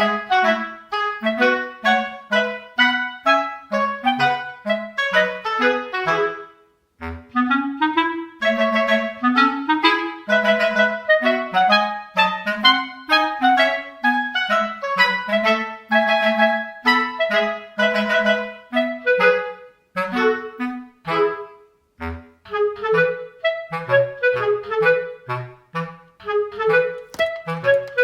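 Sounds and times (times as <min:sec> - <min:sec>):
bouncy woodwind melody: 0:00.0 - 0:28.0.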